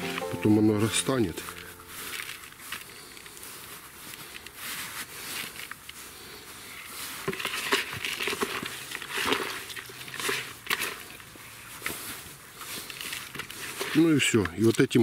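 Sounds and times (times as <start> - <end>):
hands kneading grainy bait: 2.1 - 15.0.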